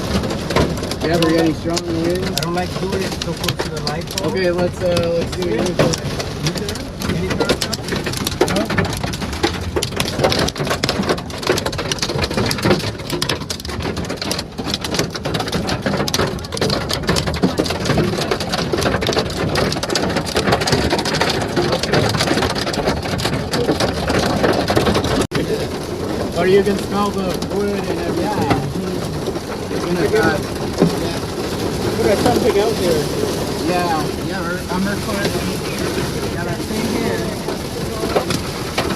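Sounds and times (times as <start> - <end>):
heavy rain on car roof: 0.0 - 38.9.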